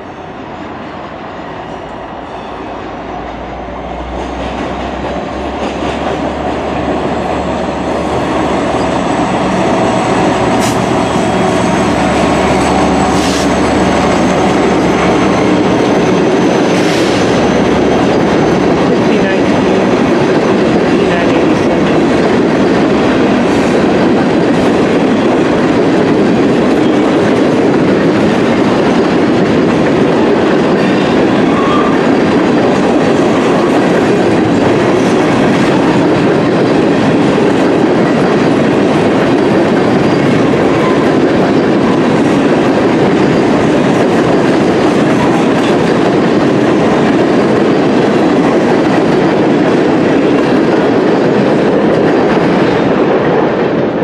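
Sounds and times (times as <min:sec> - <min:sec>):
freight train wheels rolling: 0:00.0 - 0:54.0.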